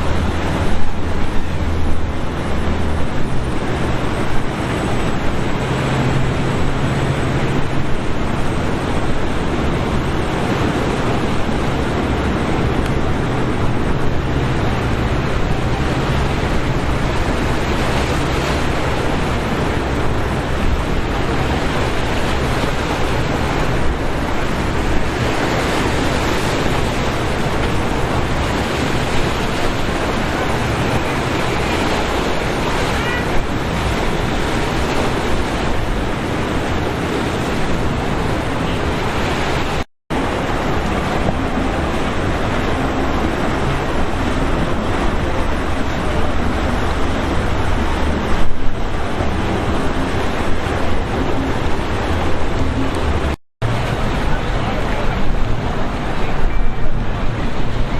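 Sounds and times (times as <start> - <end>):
rough surf and breaking waves: 0.0 - 57.9
wind buffeting microphone: 0.0 - 57.9.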